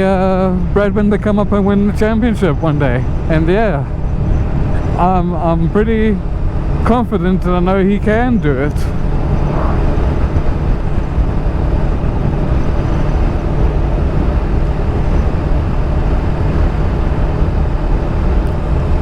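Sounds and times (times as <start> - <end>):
faint constant hum: 0.0 - 19.0
road vehicle rumble: 0.0 - 19.0.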